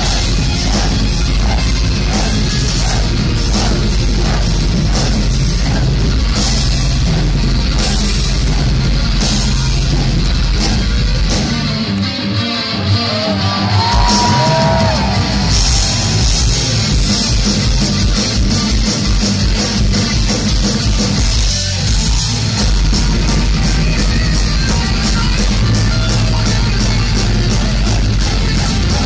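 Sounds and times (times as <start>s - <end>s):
drums and cymbals: 0.0s - 11.9s, 13.6s - 29.0s
distorted electric guitars: 0.0s - 29.0s
heavy metal band playing live: 0.0s - 29.0s.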